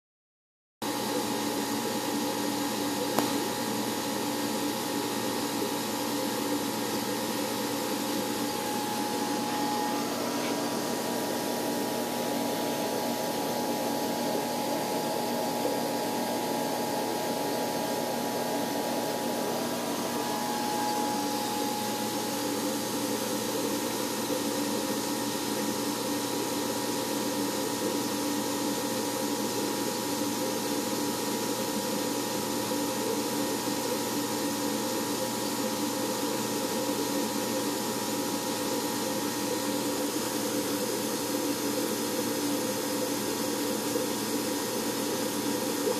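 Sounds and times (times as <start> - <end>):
machinery hum and hiss: 0.9 - 45.9.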